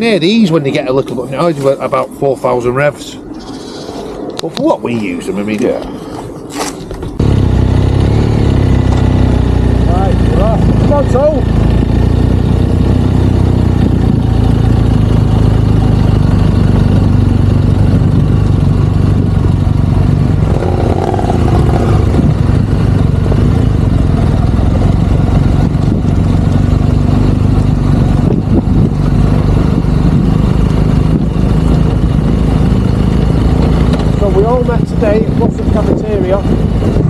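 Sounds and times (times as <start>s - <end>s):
motorcycle engines pulling away: 4.6s - 37.0s.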